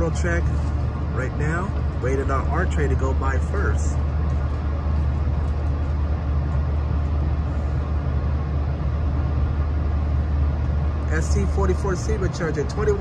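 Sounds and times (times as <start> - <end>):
train car hum and rumble: 0.0 - 13.0.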